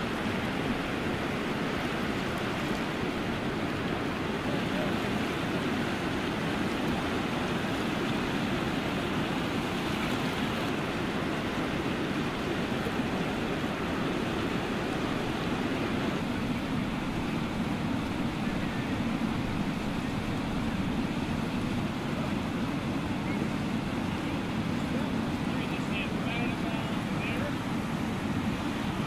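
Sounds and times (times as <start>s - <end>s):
river rapids rushing: 0.0s - 29.0s.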